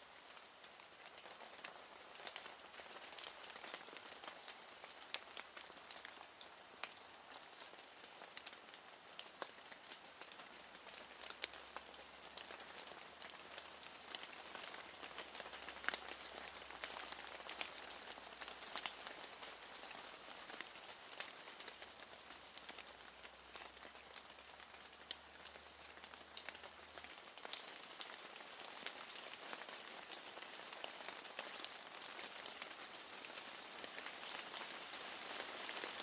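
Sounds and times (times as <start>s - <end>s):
light rain hiss: 0.0s - 36.0s
raindrops ticking on window: 0.1s - 35.8s.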